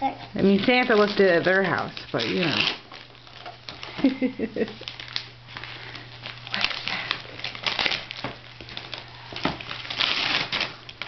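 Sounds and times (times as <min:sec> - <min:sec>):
wrapping paper crinkling: 0:00.4 - 0:11.0.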